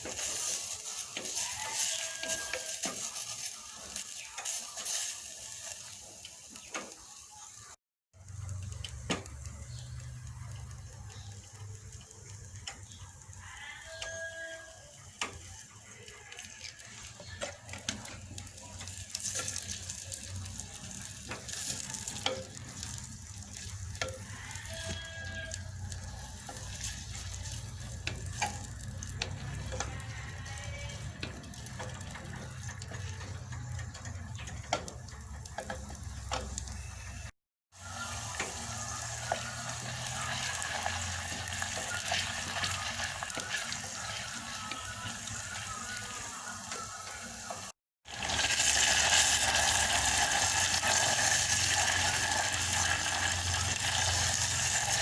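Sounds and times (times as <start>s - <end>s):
utensil stirring and clicking: 0.0s - 6.9s, 8.4s - 55.0s
food sizzling in a pan: 0.0s - 55.0s.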